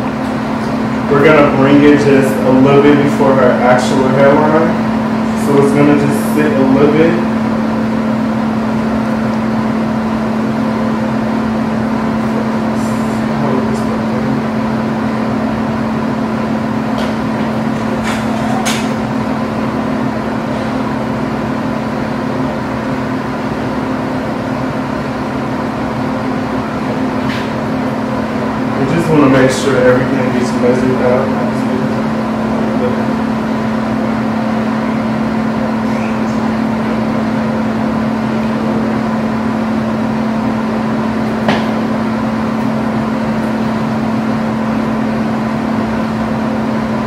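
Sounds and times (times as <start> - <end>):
mechanical hum with droning tone: 0.0 - 47.0.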